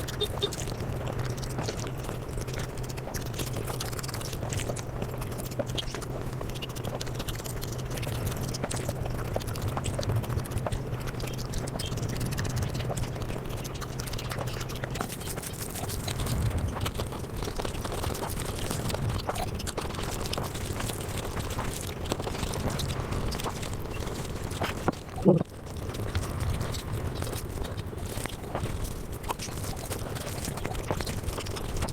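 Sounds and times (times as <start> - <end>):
sped-up wet chewing: 0.0 - 31.9
steady low hum: 0.0 - 31.9.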